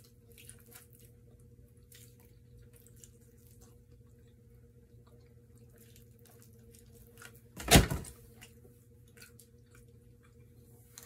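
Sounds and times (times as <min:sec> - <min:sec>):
wet chewing: 0:00.0 - 0:07.6, 0:08.2 - 0:11.0.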